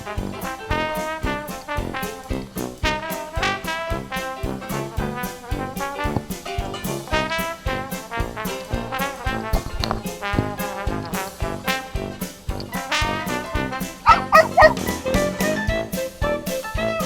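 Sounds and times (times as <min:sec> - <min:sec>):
upbeat brass tune with drums: 0:00.0 - 0:17.0.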